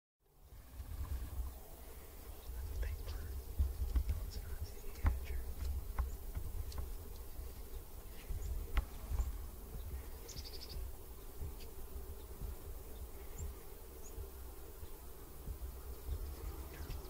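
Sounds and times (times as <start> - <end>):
insect buzzing: 0.4 - 17.0.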